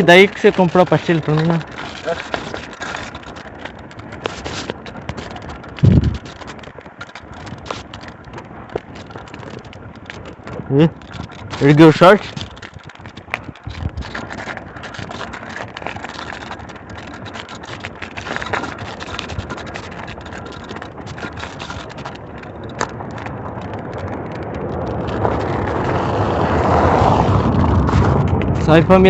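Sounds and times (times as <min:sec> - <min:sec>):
wind rushing on microphone: 0:00.0 - 0:29.0.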